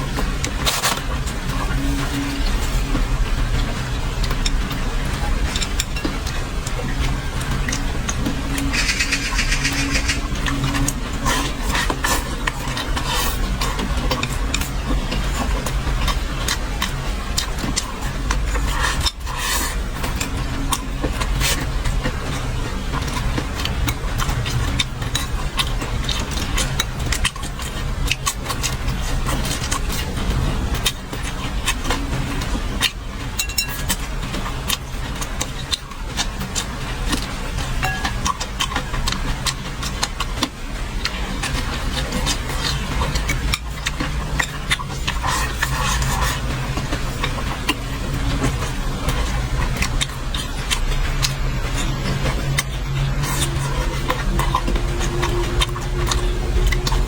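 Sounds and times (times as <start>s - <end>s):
chewing crisp fried food: 0.0s - 57.0s
steady low hum: 0.0s - 57.0s.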